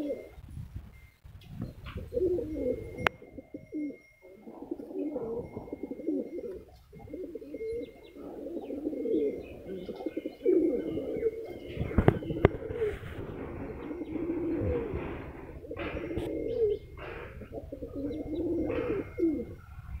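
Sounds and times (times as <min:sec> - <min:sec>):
pigeons cooing: 0:00.0 - 0:00.5, 0:01.5 - 0:20.0.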